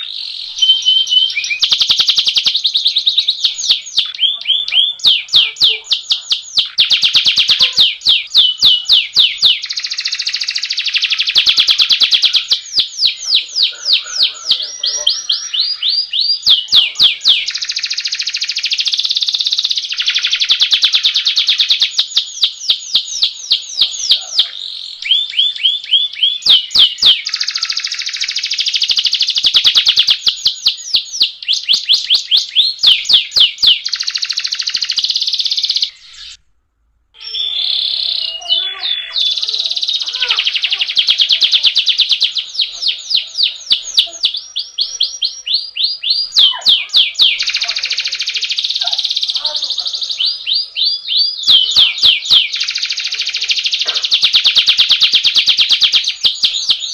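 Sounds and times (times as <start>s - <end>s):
canary singing rolling trills: 0.0s - 36.4s, 37.1s - 56.9s.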